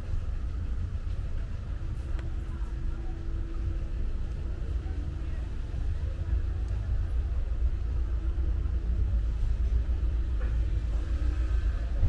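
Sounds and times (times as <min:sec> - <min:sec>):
city street low rumble: 0:00.0 - 0:12.0.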